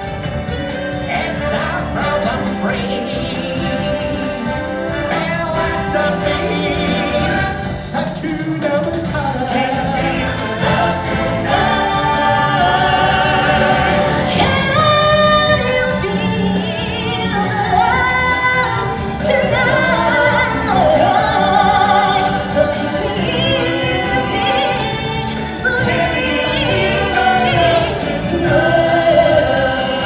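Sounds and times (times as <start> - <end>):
singers and choir holding notes: 0.0 - 30.0
stage-show music with band: 0.0 - 30.0.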